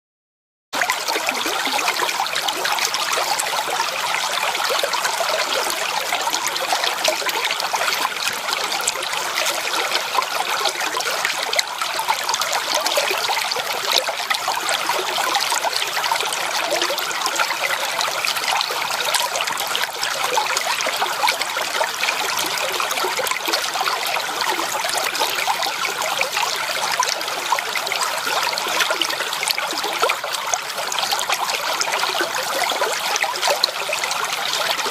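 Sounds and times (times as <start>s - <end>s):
stream trickling over rocks: 0.8s - 34.9s.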